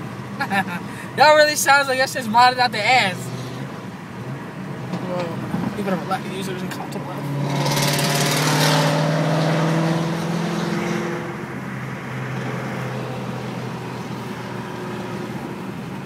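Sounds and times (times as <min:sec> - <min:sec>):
loud car engine under throttle: 0:00.0 - 0:16.0
road rumble: 0:00.0 - 0:16.0.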